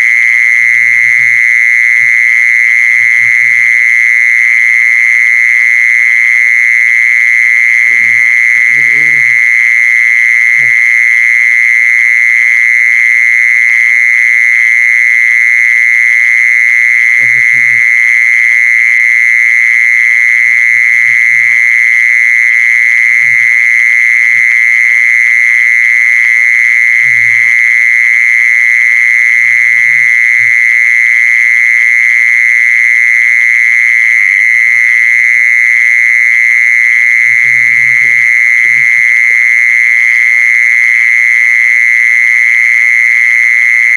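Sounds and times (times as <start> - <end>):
insect high-pitched trill: 0.0 - 12.6, 16.0 - 43.9.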